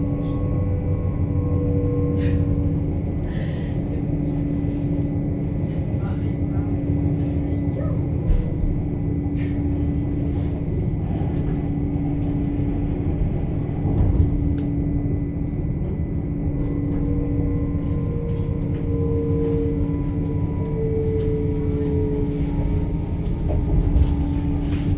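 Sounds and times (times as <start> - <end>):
train rumble inside carriage: 0.0 - 24.9.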